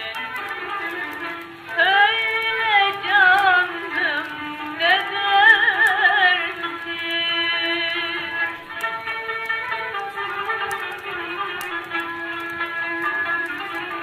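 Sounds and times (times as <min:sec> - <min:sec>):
held instrumental notes: 0:00.0 - 0:14.0
record crackling: 0:00.0 - 0:14.0.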